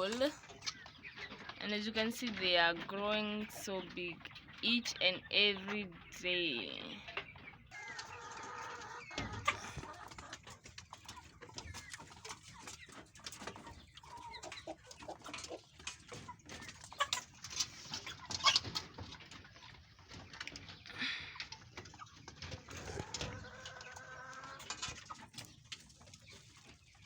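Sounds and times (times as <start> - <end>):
chickens clucking and chirping: 0.0 - 27.0.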